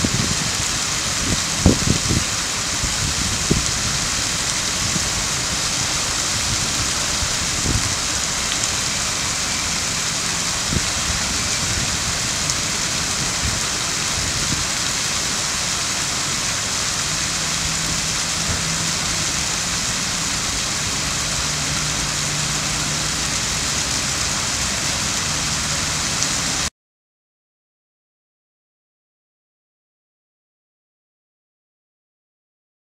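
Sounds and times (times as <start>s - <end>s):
fountain water splashing on stone: 0.0s - 26.7s.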